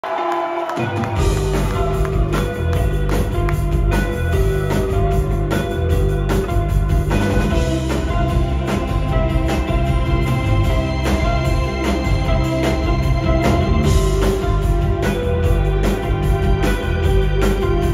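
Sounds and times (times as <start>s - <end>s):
live rock band playing: 0.6s - 17.9s
drum kit beat: 1.0s - 17.9s.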